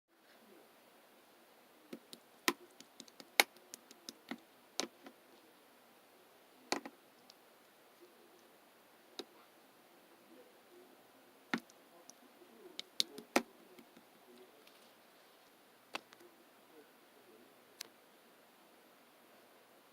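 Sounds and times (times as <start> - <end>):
faint room noise: 0.1 - 19.9.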